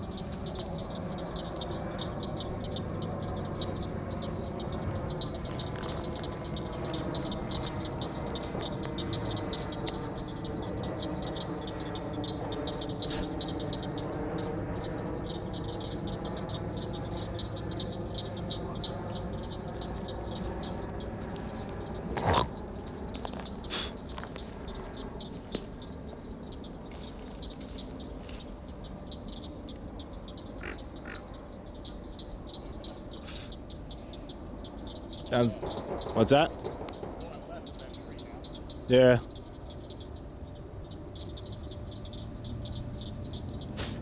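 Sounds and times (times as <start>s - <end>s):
fast insect trill: 0.0s - 44.0s
low droning frog chorus: 0.0s - 44.0s.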